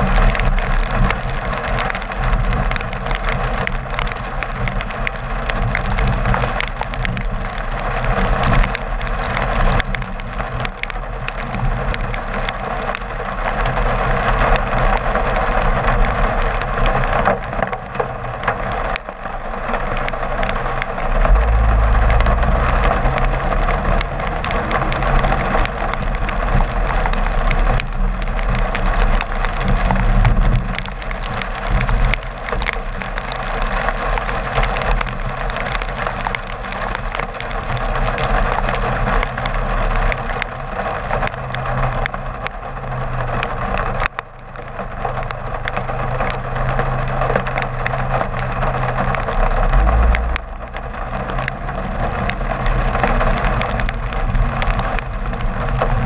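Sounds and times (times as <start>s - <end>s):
low road rumble: 0.0s - 56.0s
raindrops clicking on camera: 0.0s - 56.0s
tyres hissing on wet road: 0.0s - 56.0s.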